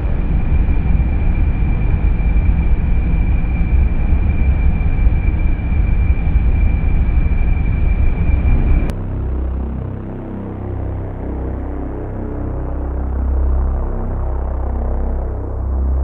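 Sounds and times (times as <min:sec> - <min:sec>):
deep dense rumble: 0:00.0 - 0:16.0.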